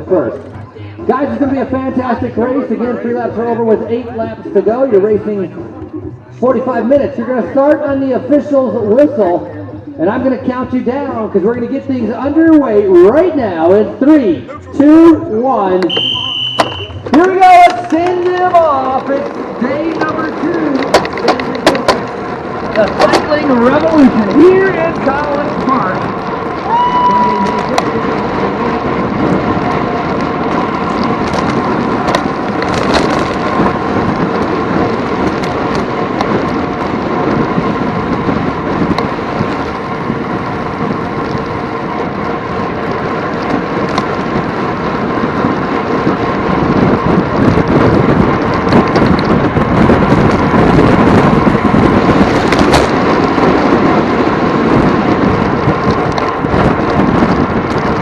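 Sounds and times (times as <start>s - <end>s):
wind buffeting the microphone: 0.0s - 58.0s.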